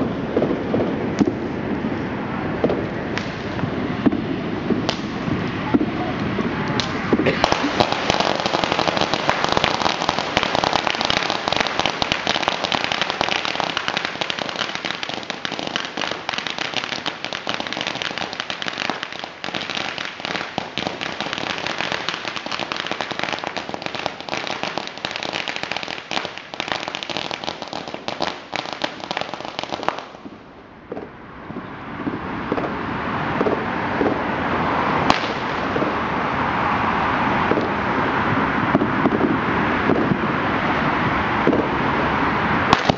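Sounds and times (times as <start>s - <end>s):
firecrackers crackling: 0.0s - 42.9s
passing road traffic: 0.0s - 42.9s.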